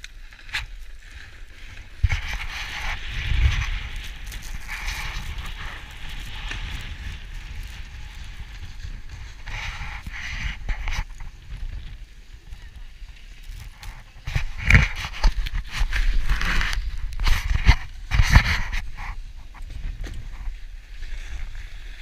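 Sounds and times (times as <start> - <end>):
snowboard sliding over snow: 0.0 - 22.0
wind buffeting microphone: 1.5 - 22.0.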